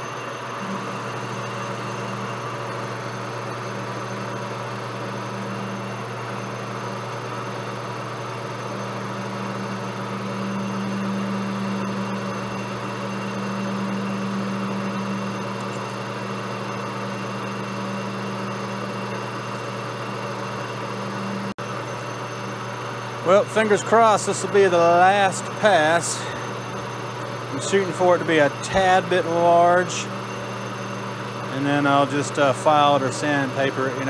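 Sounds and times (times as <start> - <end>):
metal lathe humming: 0.0 - 34.0.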